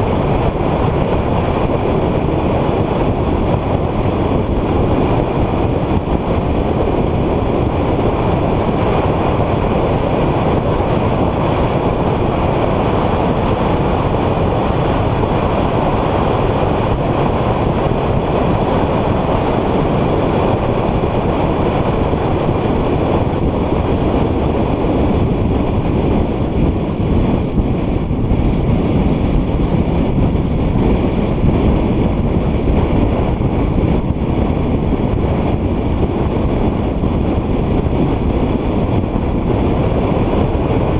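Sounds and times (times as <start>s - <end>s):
car road noise: 0.0s - 40.9s
wind rush: 0.0s - 40.9s.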